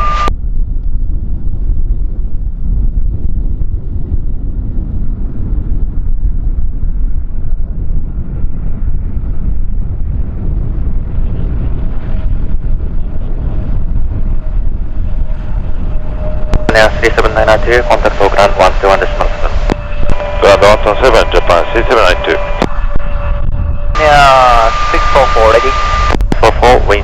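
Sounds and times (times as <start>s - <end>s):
faint jet engine whine: 0.0s - 27.0s
wind buffeting microphone: 0.0s - 27.0s.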